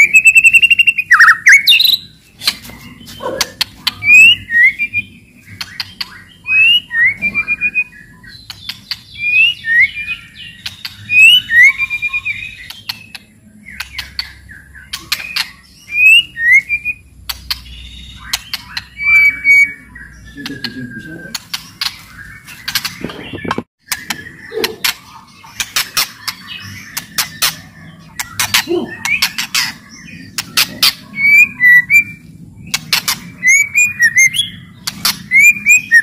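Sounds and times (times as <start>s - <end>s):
songbird whistling and clicking: 0.0s - 36.0s.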